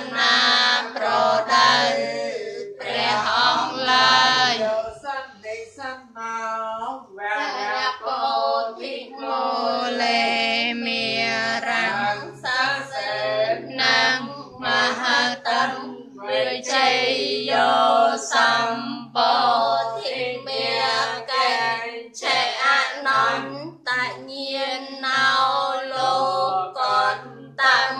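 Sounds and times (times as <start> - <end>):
voices chanting: 0.0 - 5.0, 7.4 - 27.9.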